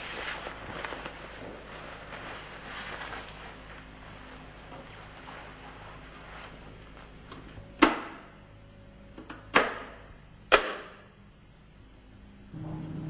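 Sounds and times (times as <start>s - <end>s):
low steady room hum: 0.0s - 13.0s.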